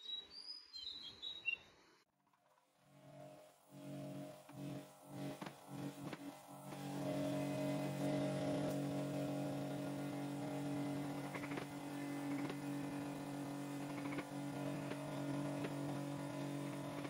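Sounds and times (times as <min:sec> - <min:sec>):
workshop machine motor hum: 0:02.6 - 0:17.0.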